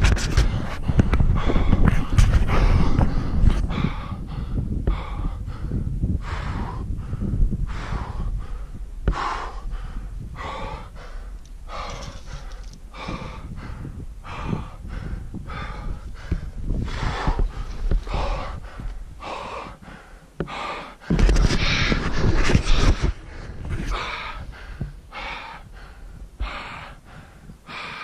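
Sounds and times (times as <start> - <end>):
low rush of noise: 0.0 - 28.0
person breathing hard: 0.4 - 28.0.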